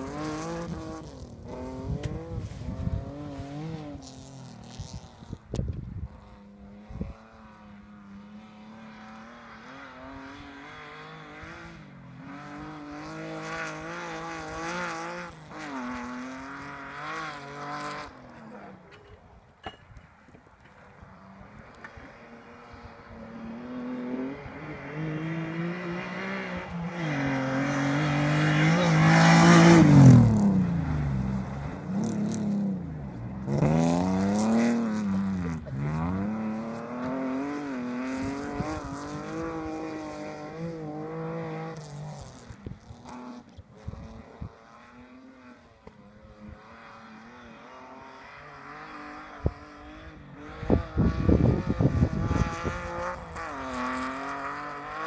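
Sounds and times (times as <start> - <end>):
car engine at high revs: 0.0 - 19.1, 20.5 - 55.0.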